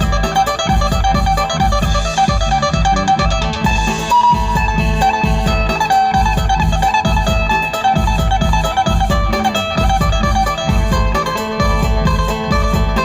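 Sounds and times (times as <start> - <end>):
plucked lute melody: 0.0 - 13.0
steady low beat: 0.0 - 13.0.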